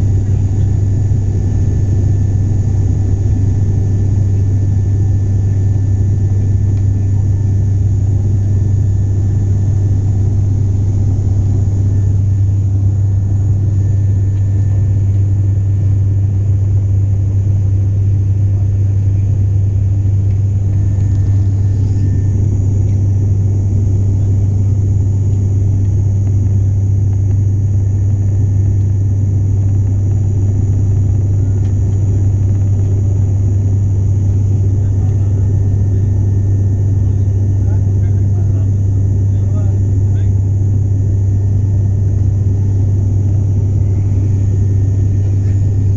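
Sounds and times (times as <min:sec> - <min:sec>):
airliner engines droning in cabin: 0:00.0 - 0:45.9.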